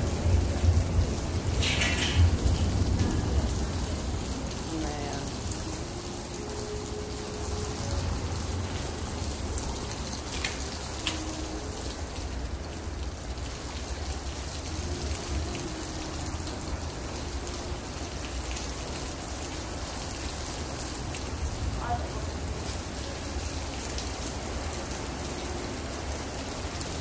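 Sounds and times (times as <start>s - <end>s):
heavy rain on glass doors: 0.0s - 27.0s.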